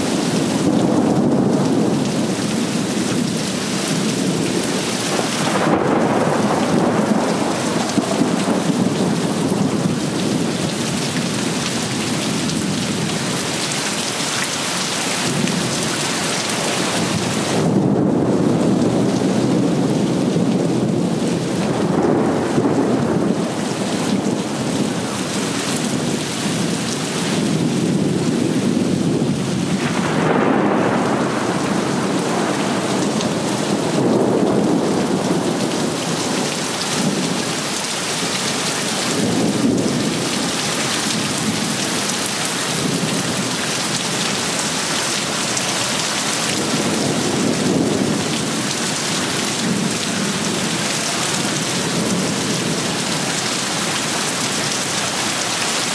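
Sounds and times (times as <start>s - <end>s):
low thunder rumbles: 0.0s - 13.4s, 16.6s - 55.1s
heavy rain pouring: 0.0s - 55.9s.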